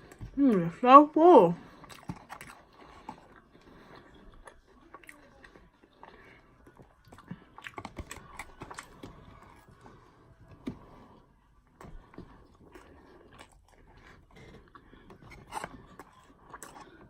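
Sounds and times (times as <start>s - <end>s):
person chewing food: 0.0s - 0.6s, 1.6s - 17.0s.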